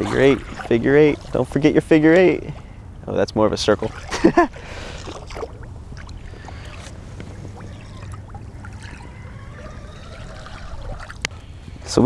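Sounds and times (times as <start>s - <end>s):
boat motor low hum: 0.0s - 12.0s
faint water noise: 0.0s - 12.0s.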